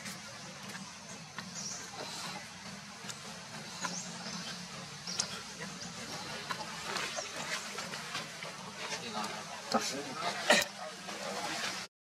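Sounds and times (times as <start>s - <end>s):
outdoor background noise: 0.0s - 11.9s.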